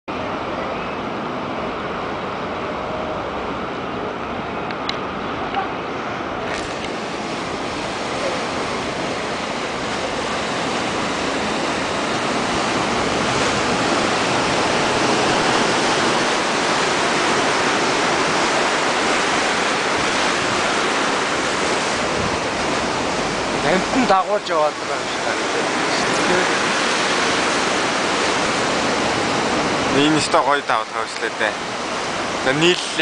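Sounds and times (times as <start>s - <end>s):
ocean surf breaking: 1.0s - 33.0s.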